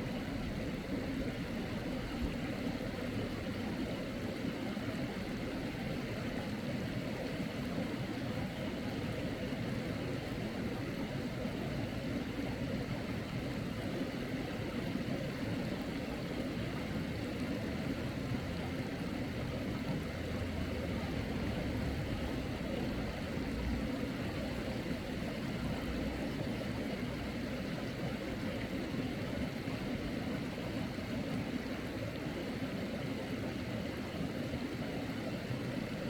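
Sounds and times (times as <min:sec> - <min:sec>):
mountain stream water rushing: 0:00.0 - 0:36.0.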